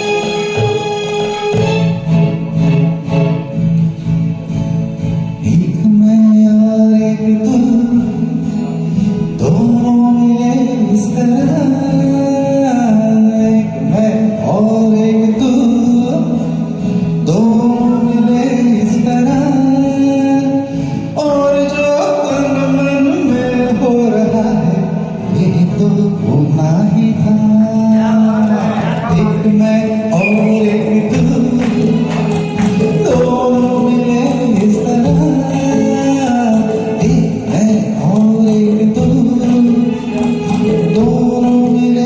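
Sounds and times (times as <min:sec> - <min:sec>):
karaoke backing track: 0:00.0 - 0:42.0
man singing: 0:05.3 - 0:42.0.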